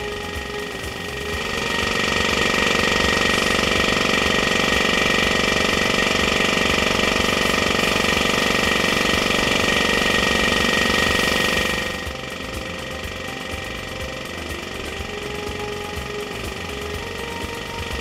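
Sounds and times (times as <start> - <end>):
piston air compressor running: 0.0 - 18.0.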